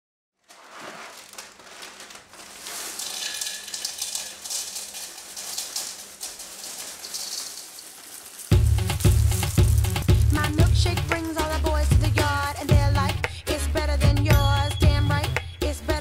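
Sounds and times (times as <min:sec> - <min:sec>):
corn flakes poured into bowl: 0:00.5 - 0:13.9.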